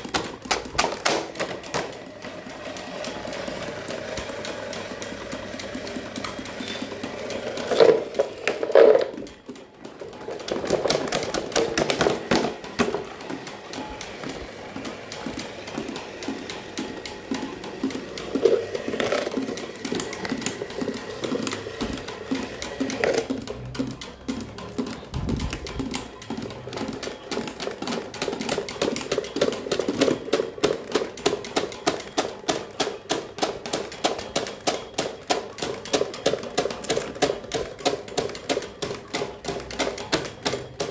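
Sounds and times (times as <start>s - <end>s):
electric fan clattering: 0.0s - 40.9s.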